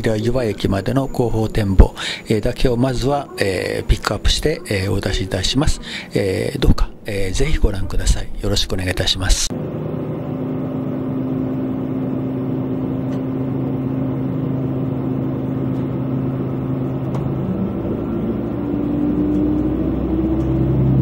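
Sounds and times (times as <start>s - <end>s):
diesel train engine pulling away: 0.0s - 7.3s, 9.5s - 21.0s.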